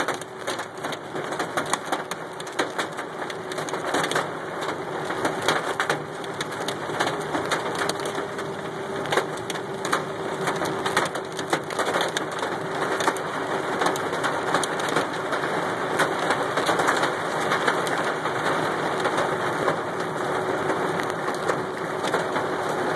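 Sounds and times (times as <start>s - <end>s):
hail clattering on car: 0.0s - 22.9s
heavy rain wash: 0.0s - 22.9s.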